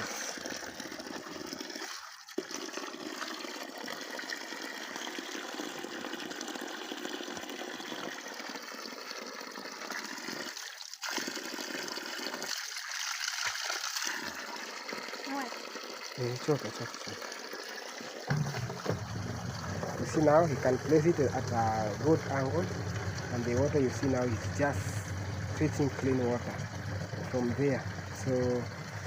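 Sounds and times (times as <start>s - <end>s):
water pouring from a pipe: 0.0s - 29.0s.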